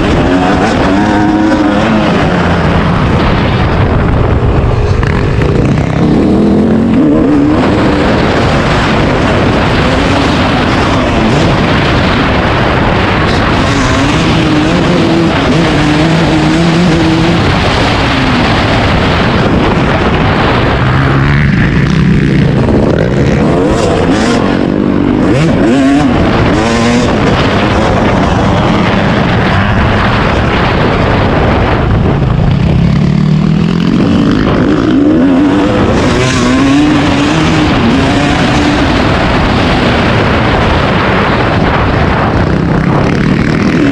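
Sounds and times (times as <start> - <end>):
dirt bike engine revving: 0.0 - 43.9
loud rushing noise: 0.0 - 43.9.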